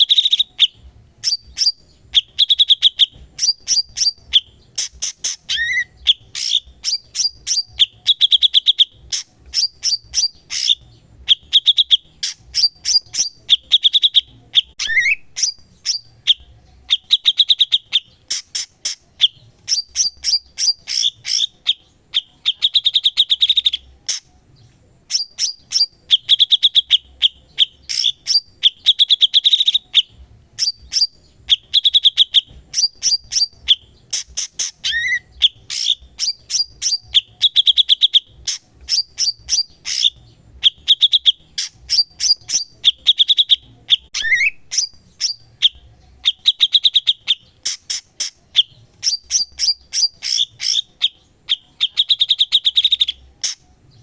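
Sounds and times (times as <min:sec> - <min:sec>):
bird singing trilled phrases: 0:00.0 - 0:54.0.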